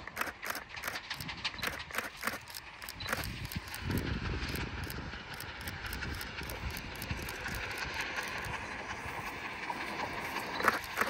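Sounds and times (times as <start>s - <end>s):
steam train rhythmic clatter: 0.0s - 11.0s.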